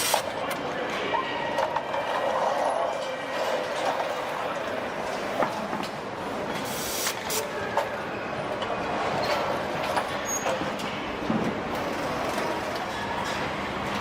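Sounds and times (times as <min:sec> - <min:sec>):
conveyors and machinery din: 0:00.0 - 0:14.0.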